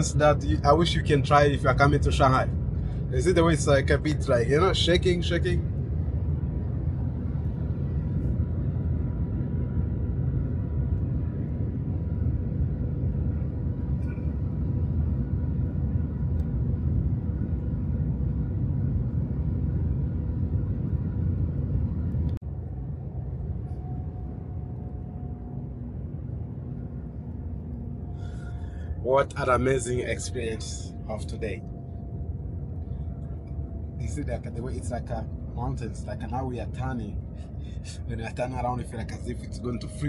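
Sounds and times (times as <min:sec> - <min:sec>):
faint steady hum: 0:00.0 - 0:40.0
train rumble inside cabin: 0:00.0 - 0:40.0.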